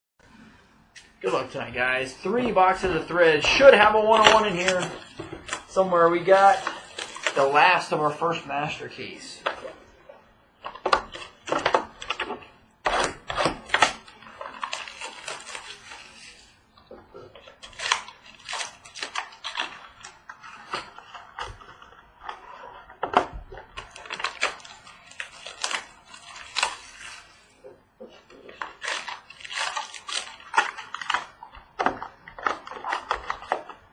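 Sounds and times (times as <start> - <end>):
plastic wrap crinkling: 0.9 - 33.9
cardboard rustling: 1.0 - 33.9.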